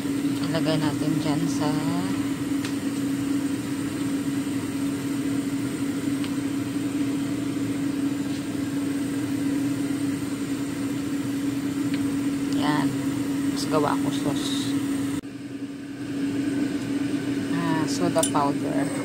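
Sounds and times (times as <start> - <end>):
machine hum with low drone: 0.0 - 19.0.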